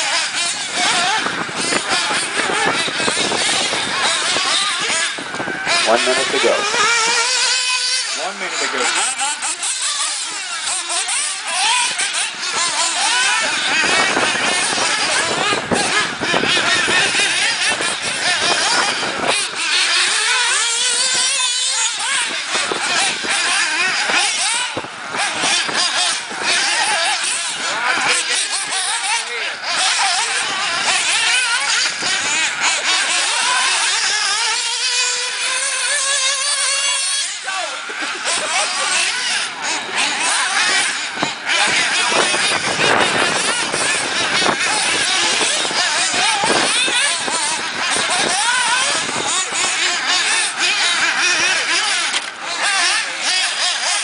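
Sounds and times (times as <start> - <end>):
rc car engines revving: 0.0 - 54.0.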